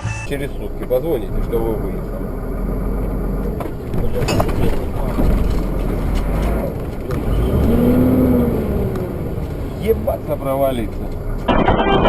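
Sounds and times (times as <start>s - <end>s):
motor vehicle engine rumbling: 0.0s - 12.0s.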